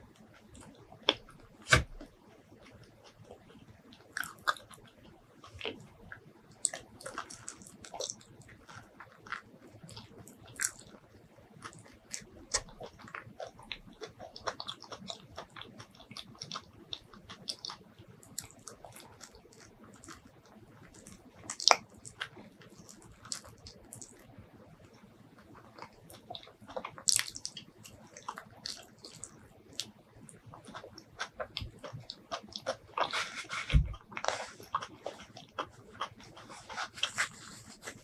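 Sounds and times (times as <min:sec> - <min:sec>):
wet chewing mouth sounds: 0:00.5 - 0:24.3, 0:25.0 - 0:38.0.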